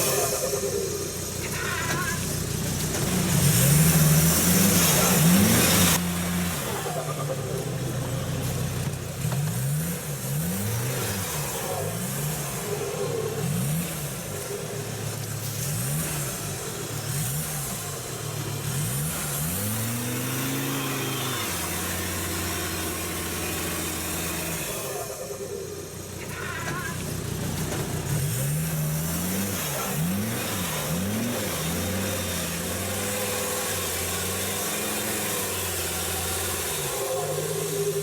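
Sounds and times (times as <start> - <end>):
diesel engine revving: 0.0 - 38.0.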